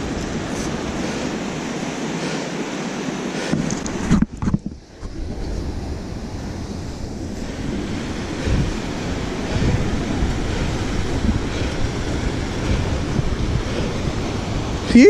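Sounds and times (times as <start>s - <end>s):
river water rushing: 0.0s - 4.2s, 5.0s - 15.0s
wind buffeting microphone: 0.0s - 15.0s.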